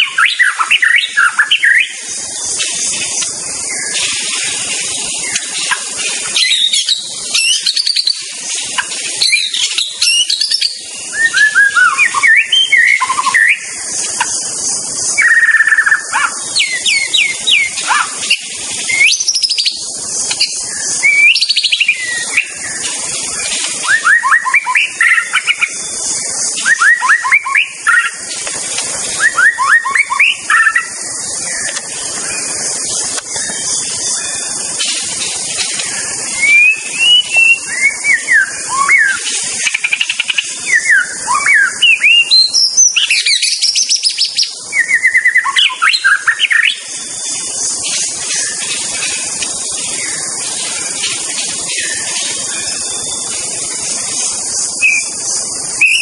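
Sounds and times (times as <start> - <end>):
bird singing whistles and trills: 0.0 - 56.0
steady high hiss: 0.0 - 56.0.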